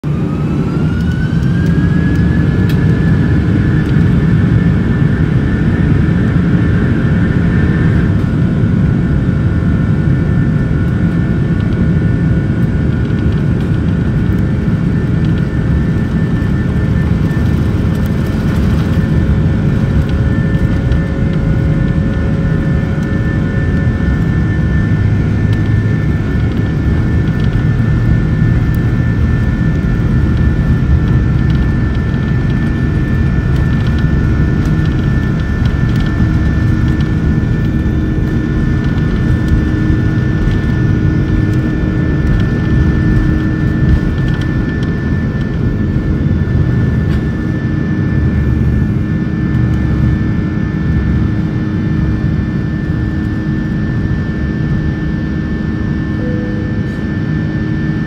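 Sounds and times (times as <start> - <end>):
jet engines whining: 0.0 - 58.0
low engine rumble: 0.0 - 58.0.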